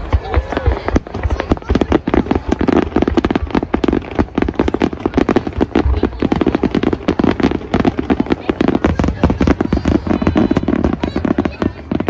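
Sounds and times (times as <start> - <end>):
deep firework booms: 0.0 - 12.0
fireworks cracking and popping: 0.0 - 12.0.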